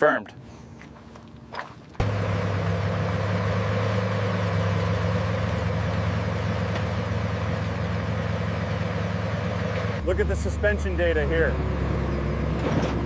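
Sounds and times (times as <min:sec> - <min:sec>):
tank engine droning: 0:01.3 - 0:13.0.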